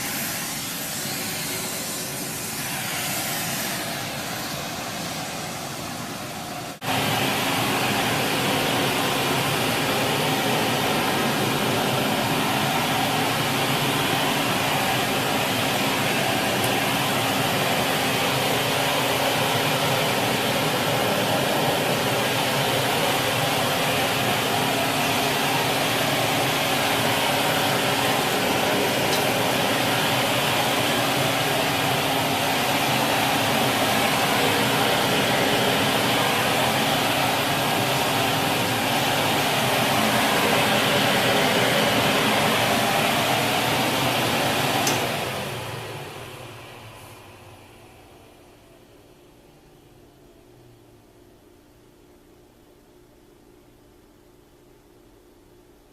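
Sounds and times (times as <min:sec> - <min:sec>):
vacuum cleaner running: 0:00.0 - 0:50.4.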